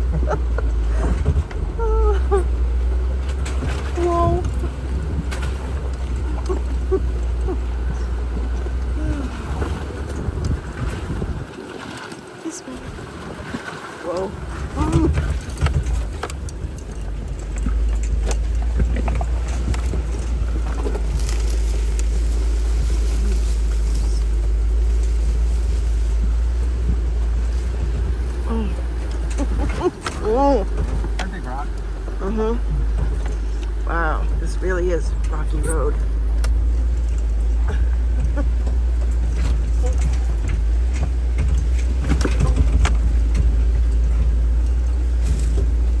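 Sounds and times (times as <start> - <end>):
rocks knocking and rattling: 0.0 - 46.0
vehicle engine low rumble: 0.0 - 46.0.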